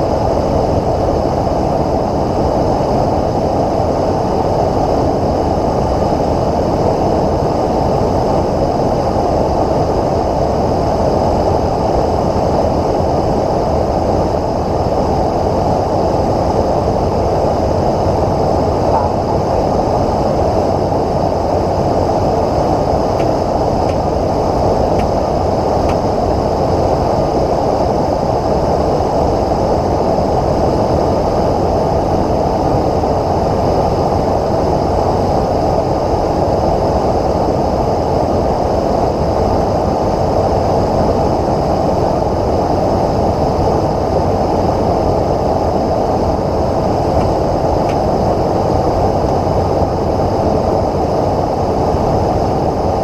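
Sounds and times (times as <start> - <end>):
aircraft engine and airflow roar: 0.0 - 53.0.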